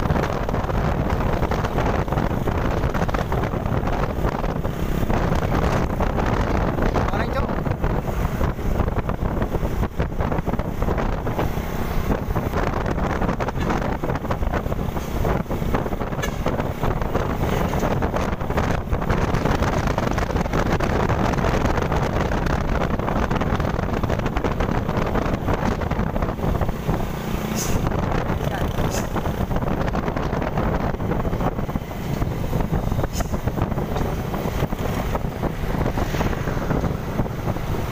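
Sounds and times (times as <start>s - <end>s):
moving vehicle road noise: 0.0s - 37.9s
wind buffeting microphone: 0.0s - 37.9s.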